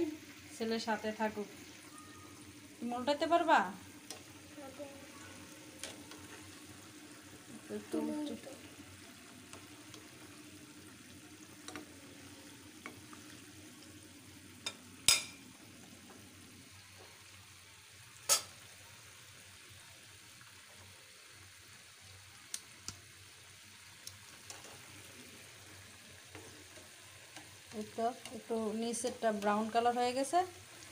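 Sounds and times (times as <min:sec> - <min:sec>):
chicken sizzling in hot oil: 0:00.0 - 0:30.9.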